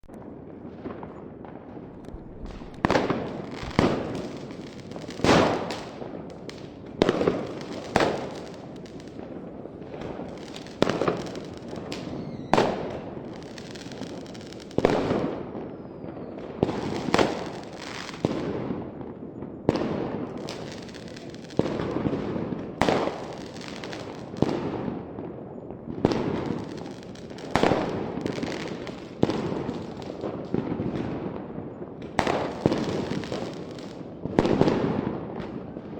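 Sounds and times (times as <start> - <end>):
fireworks bangs and crackle: 0.0 - 35.9.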